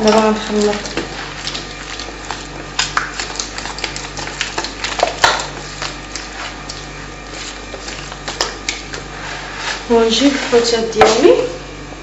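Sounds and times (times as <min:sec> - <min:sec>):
hand squelching marinade: 0:00.0 - 0:11.5.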